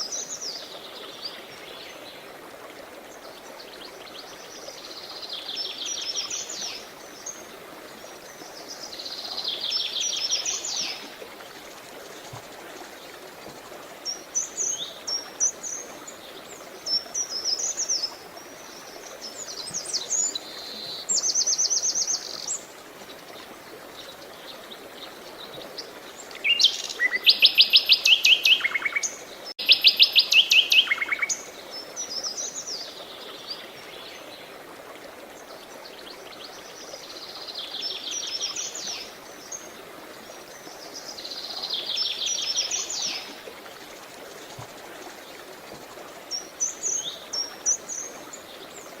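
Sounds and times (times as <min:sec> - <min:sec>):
running water hiss: 0:00.0 - 0:49.0
songbirds singing: 0:03.1 - 0:34.6, 0:35.4 - 0:49.0.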